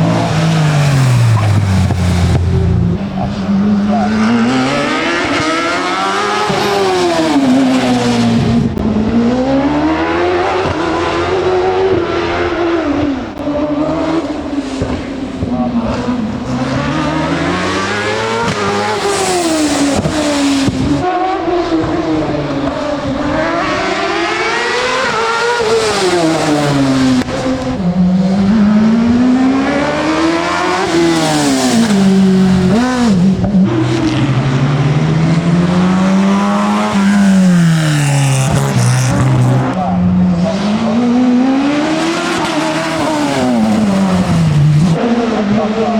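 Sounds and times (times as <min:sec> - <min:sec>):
racing car engine revving: 0:00.0 - 0:45.9.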